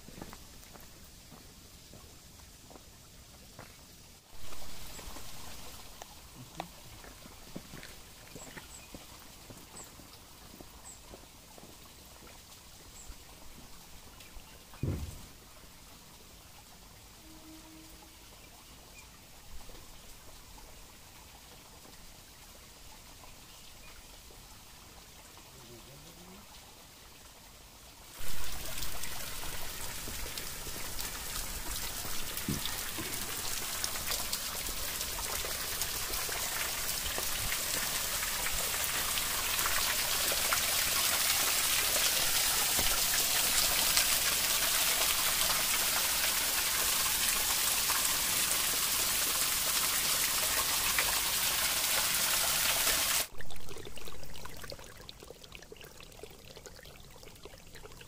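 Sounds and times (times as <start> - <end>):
bursts of running water: 4.3 - 58.0
water trickling down rock: 4.3 - 58.0.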